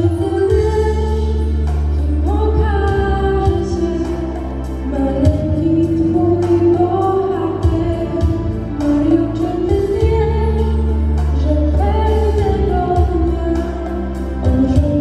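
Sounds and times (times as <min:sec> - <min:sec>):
amplified accompaniment with beat: 0:00.0 - 0:15.0
young woman singing: 0:00.0 - 0:15.0.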